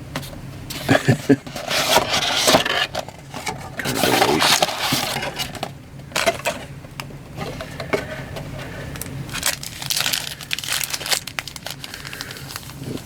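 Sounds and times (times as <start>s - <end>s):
cardboard and packs rustling: 0.2s - 13.0s.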